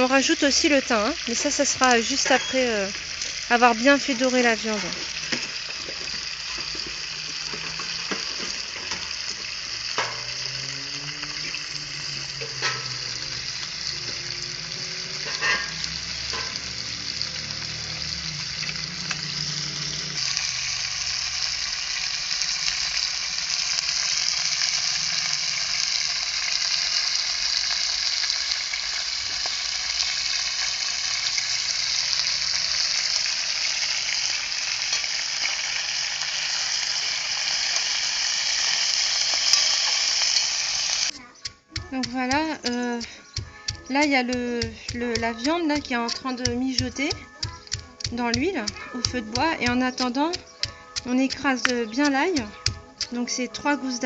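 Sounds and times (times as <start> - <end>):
meat sizzling in hot oil: 0.0 - 54.0.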